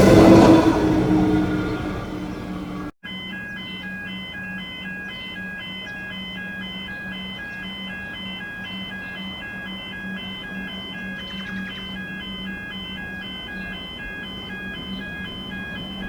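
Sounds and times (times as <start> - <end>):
pulsing low hum: 0.0 - 2.9, 5.9 - 16.0
short electronic beeps: 3.1 - 16.0.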